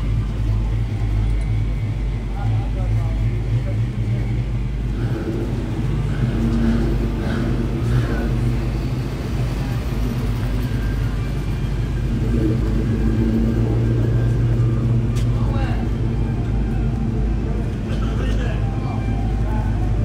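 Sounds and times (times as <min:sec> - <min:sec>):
car engine rumbling: 0:00.0 - 0:20.0
faint voices: 0:00.0 - 0:20.0.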